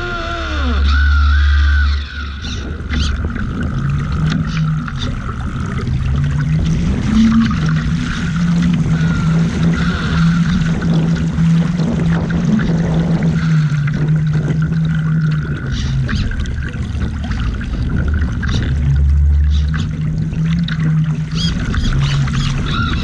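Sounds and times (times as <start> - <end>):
steady low hum: 0.0 - 23.0
water splashing along hull: 0.0 - 23.0.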